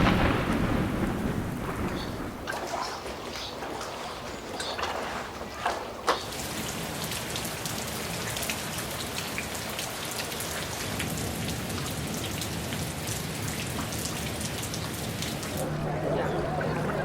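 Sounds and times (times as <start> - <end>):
rain drops ticking on a surface: 0.0 - 17.0.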